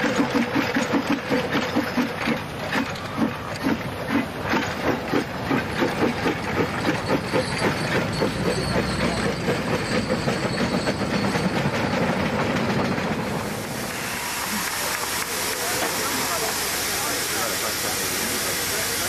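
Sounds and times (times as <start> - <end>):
steam locomotive exhaust beats: 0.0 - 19.0.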